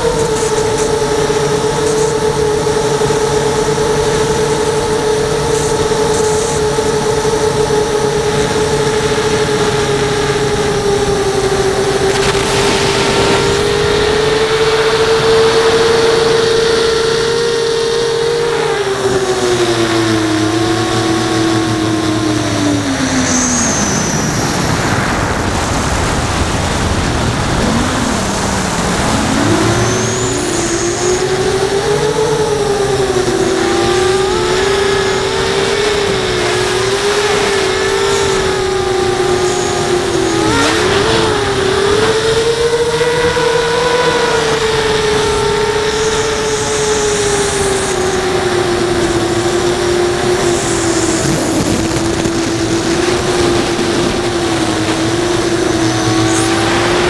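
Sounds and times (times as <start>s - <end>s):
drone propellers whining: 0.0s - 57.0s
wind rush: 2.6s - 17.3s, 22.2s - 57.0s.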